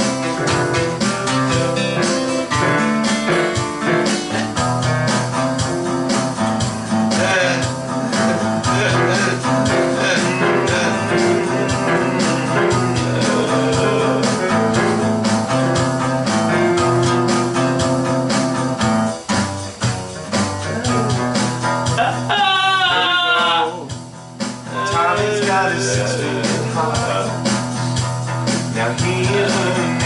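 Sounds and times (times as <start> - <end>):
guitar-led instrumental music: 0.0 - 30.0.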